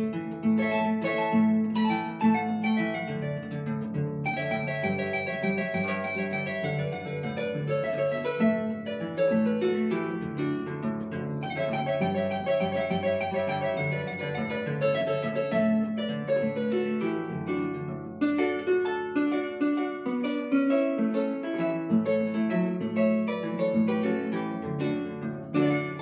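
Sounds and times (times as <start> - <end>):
harp melody: 0.0 - 26.0.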